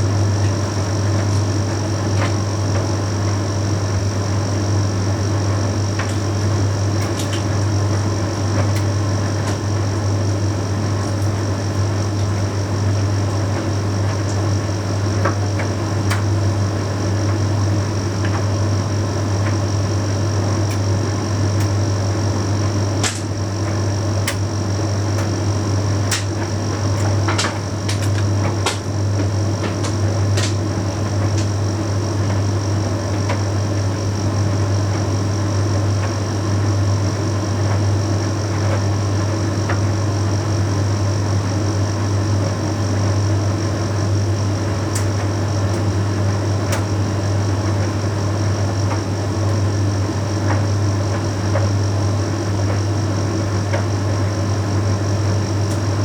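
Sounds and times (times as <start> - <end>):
tumble dryer running: 0.0 - 56.0.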